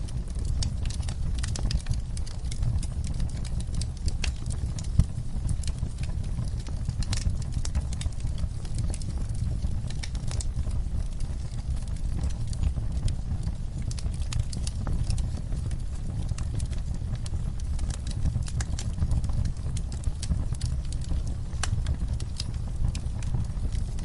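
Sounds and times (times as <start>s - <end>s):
campfire crackling: 0.0s - 24.0s
steady low rumble: 0.0s - 24.0s.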